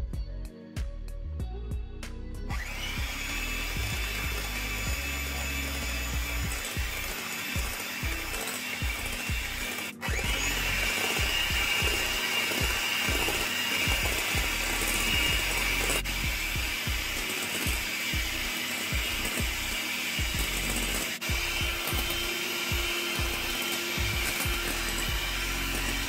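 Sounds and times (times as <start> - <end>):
electric hand mixer whining: 2.5 - 26.0
beaters whisking in glass bowl: 3.0 - 26.0.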